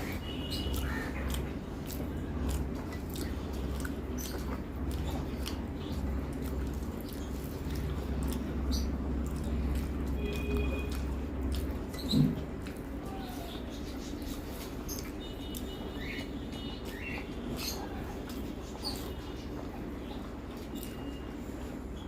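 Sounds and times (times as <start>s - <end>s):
person chewing: 0.0s - 22.0s.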